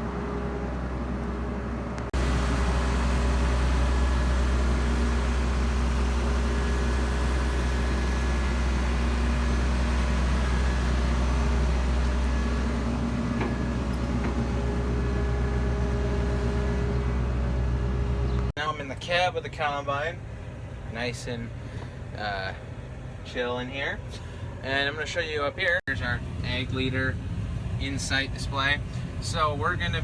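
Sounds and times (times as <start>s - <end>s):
combine diesel engine humming: 0.0s - 30.0s.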